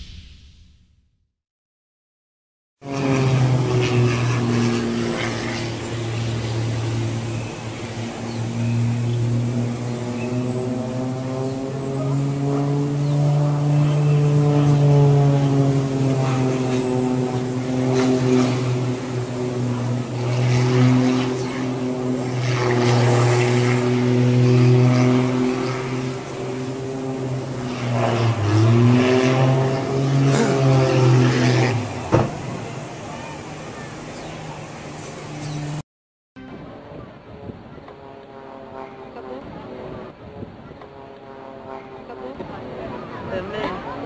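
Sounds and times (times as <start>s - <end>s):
propeller plane engine droning: 2.8s - 35.8s, 36.4s - 44.0s.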